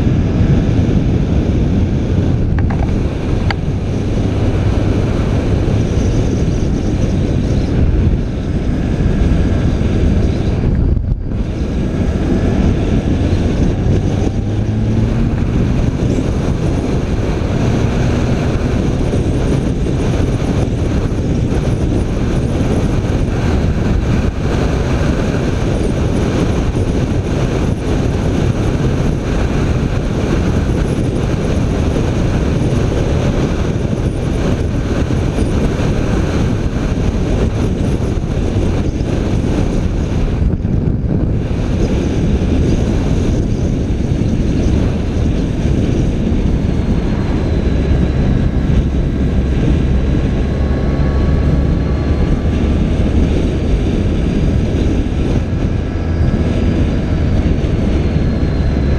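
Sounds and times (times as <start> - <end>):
motorcycle engine running: 0.0 - 58.9
wind on microphone: 0.0 - 58.9.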